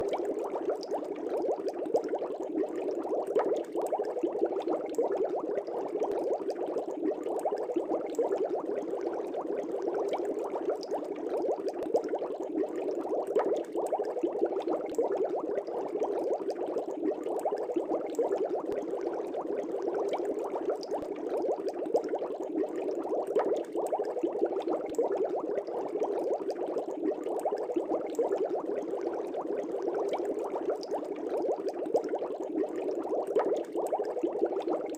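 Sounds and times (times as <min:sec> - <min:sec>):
aquarium air bubbles gurgling: 0:00.0 - 0:34.9.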